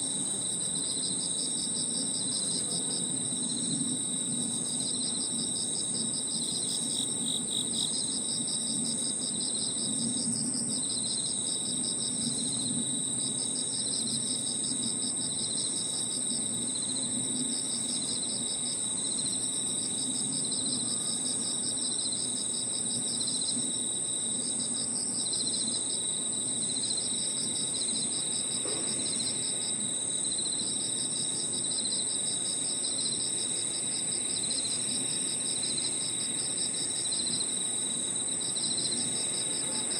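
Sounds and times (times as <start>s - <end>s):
high-pitched insect trill: 0.0s - 10.2s, 10.8s - 39.9s
lower pulsed insect trills: 0.0s - 39.9s.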